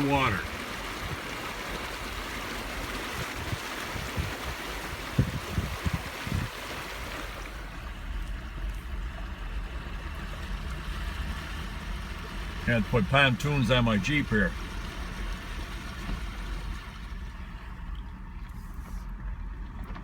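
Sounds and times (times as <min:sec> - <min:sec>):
low engine rumble: 0:00.0 - 0:20.0
water sloshing under tyres: 0:00.0 - 0:20.0.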